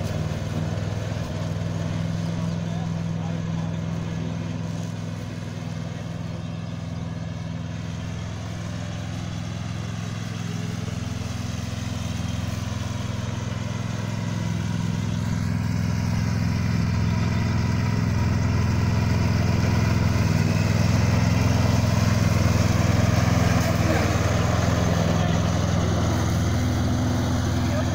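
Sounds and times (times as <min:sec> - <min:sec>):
lawn tractor engine running: 0:00.0 - 0:27.9
mower deck cutting grass: 0:00.0 - 0:27.9.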